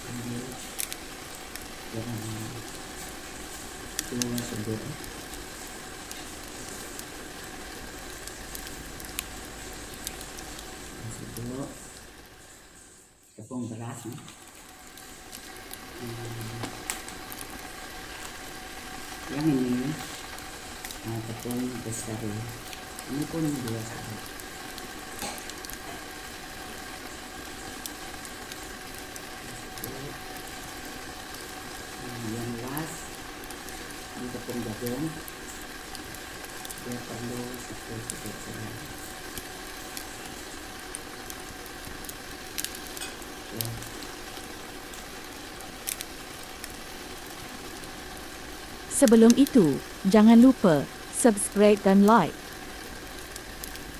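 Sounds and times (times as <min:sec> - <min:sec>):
faint steady hum: 0:00.0 - 0:53.9
steady hiss: 0:00.0 - 0:53.9.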